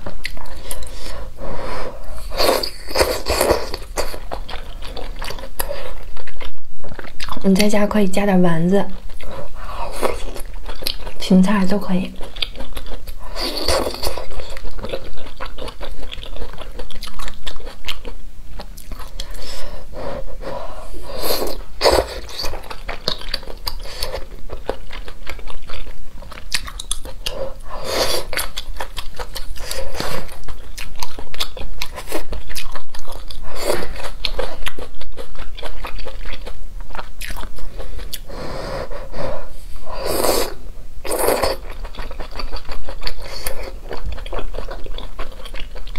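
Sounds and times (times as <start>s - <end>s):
wet chewing and mouth smacking: 0.0s - 1.2s, 2.1s - 7.8s, 8.9s - 11.2s, 12.2s - 19.8s, 21.1s - 39.2s, 40.2s - 45.9s.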